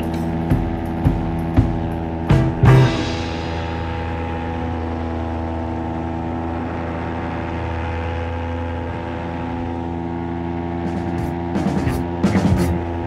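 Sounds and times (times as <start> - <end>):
paramotor engine drone: 0.0 - 13.0.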